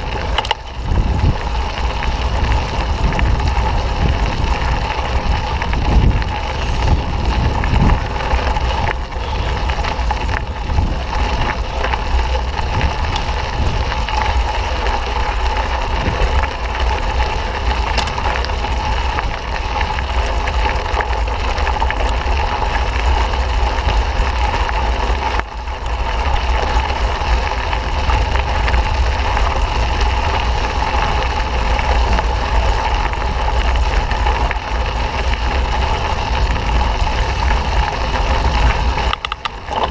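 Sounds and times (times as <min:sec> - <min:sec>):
bike tyres on dirt trail: 0:00.0 - 0:39.9
wind rumbling on microphone: 0:00.0 - 0:39.9.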